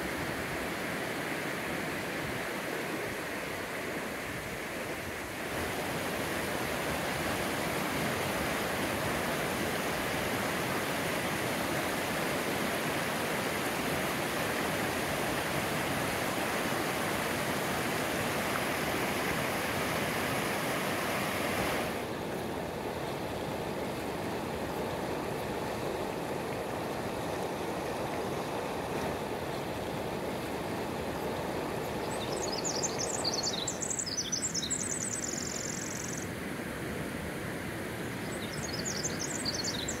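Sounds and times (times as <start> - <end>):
creek rushing over cobbles: 0.0 - 40.0.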